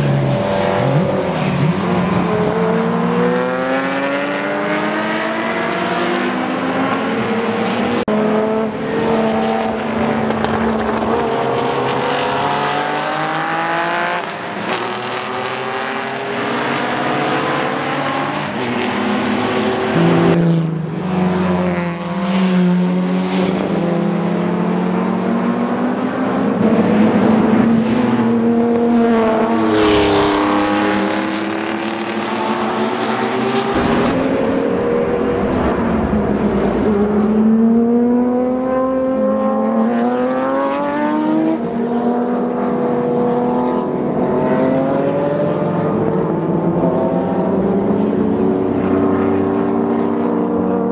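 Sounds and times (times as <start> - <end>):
racing car engines revving: 0.0 - 50.9.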